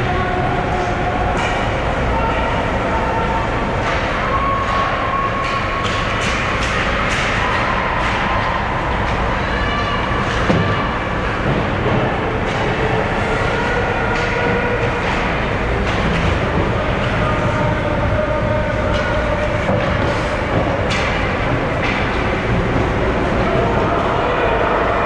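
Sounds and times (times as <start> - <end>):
ice hockey arena noise: 0.0 - 25.0.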